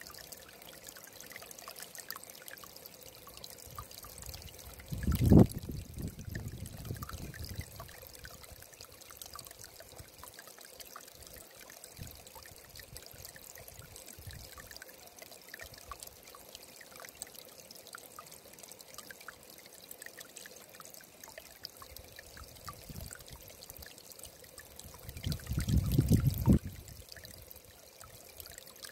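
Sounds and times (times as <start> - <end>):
stream trickling over stones: 0.0 - 28.9.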